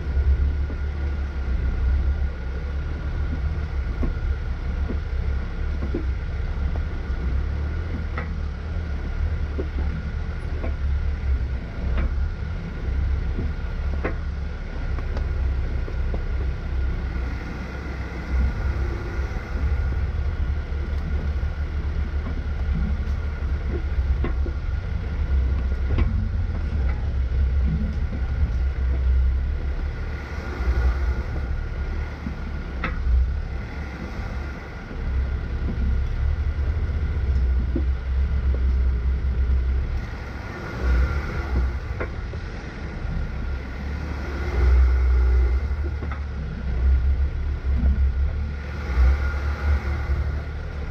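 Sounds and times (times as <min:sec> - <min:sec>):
off-road vehicle engine droning: 0:00.0 - 0:50.9.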